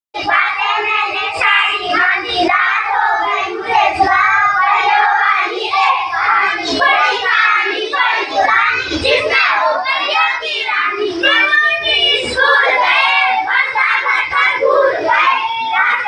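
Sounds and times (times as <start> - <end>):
children singing in unison: 0.2 - 16.0.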